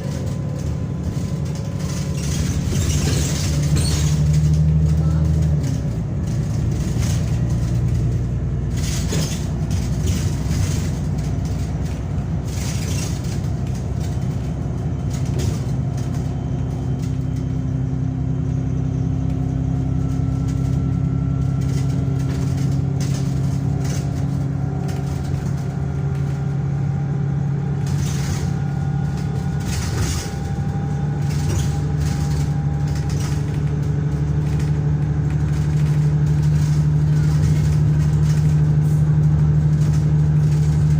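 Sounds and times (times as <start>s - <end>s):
bus engine running under load: 0.0s - 40.9s.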